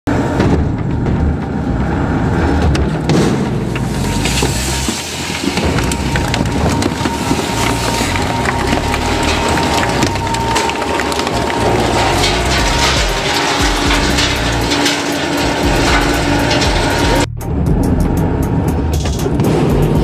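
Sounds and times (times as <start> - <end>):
crushing machine rumble: 0.1 - 20.0.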